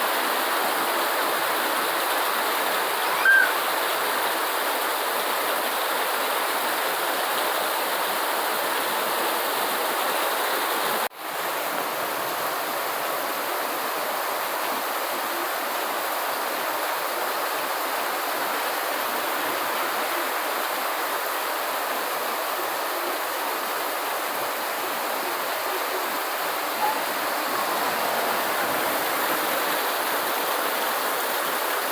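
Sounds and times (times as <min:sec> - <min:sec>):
steady rainfall: 0:00.0 - 0:31.9.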